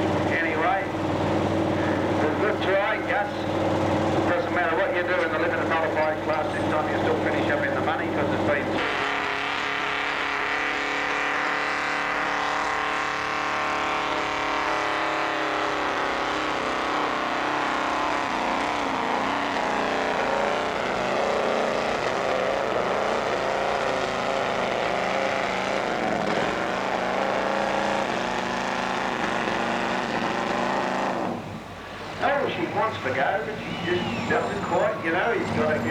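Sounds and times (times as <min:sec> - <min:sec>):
tractor engine under load: 0:00.0 - 0:35.9.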